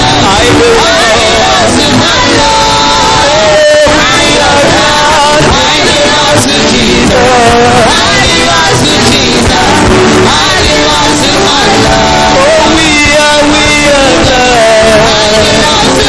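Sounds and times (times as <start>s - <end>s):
church worship music: 0.0s - 16.0s
voices singing: 0.0s - 16.0s.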